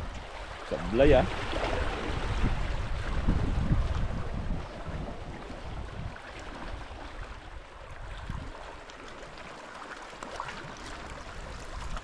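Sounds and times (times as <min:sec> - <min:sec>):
wind buffeting microphone: 0:00.0 - 0:08.8, 0:10.7 - 0:12.0
sea water on rocky shore: 0:00.0 - 0:12.0.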